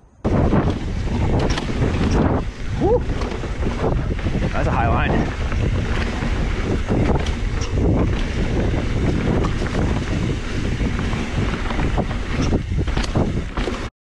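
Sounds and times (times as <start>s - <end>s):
wind buffeting microphone: 0.0s - 13.9s
bike clicks and rattles: 0.2s - 13.9s
bike tyres rolling on dirt: 0.2s - 13.9s.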